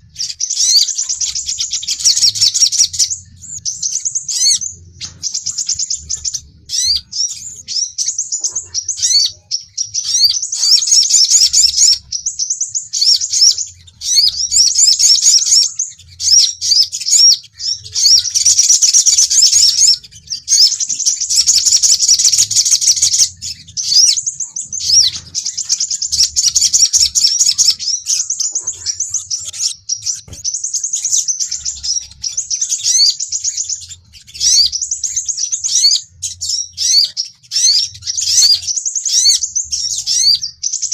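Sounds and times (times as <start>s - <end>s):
sunbird chirps and trills: 0.0s - 40.9s.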